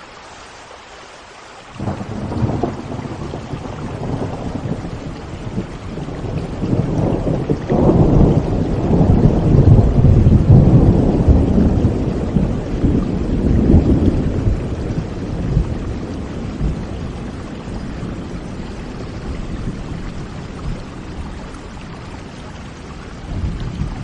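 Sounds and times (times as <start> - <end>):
steady rain: 0.0 - 24.0
rolling thunder: 1.8 - 24.0.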